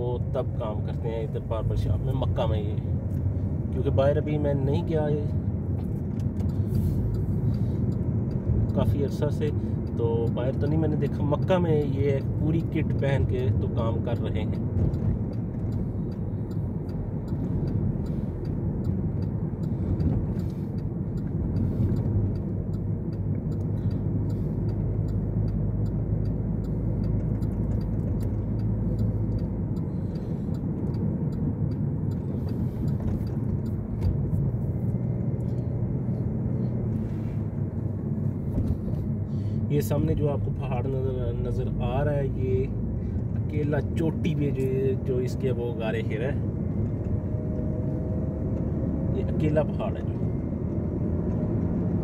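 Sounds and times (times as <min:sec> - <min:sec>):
engine and road noise rumble: 0:00.0 - 0:52.0.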